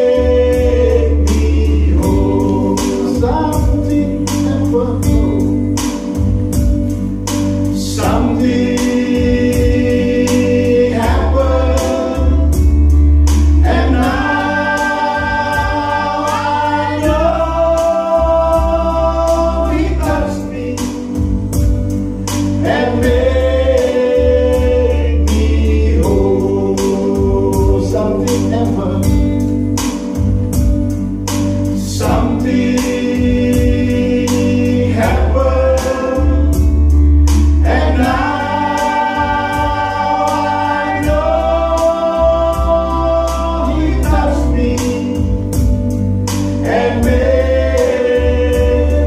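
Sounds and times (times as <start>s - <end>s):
men singing gospel: 0.0s - 30.7s, 31.3s - 49.0s
electronic keyboard with beat: 0.0s - 49.0s.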